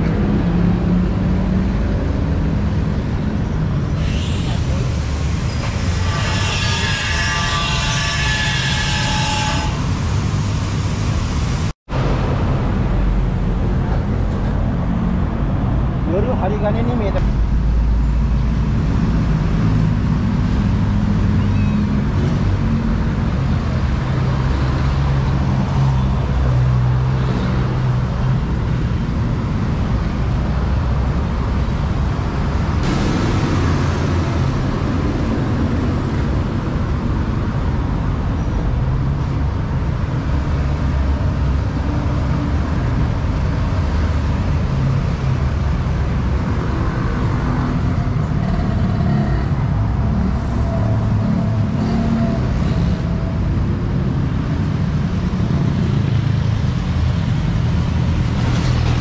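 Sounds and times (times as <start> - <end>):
road traffic engine drone: 0.0 - 59.0.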